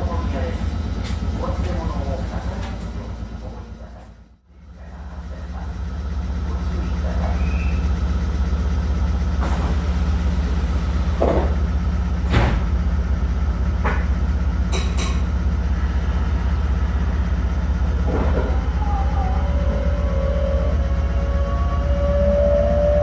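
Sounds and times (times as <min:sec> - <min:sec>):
train rumble and hum: 0:00.0 - 0:23.0.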